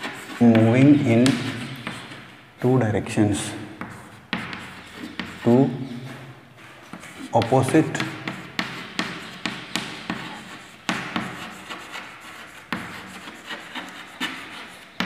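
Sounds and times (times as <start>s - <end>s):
chalk tapping and scratching on blackboard: 0.0s - 15.0s.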